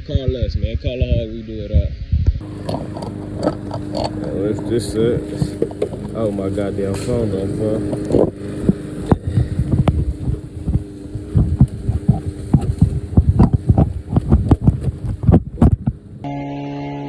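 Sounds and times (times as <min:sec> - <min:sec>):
low hum: 0:01.9 - 0:17.0.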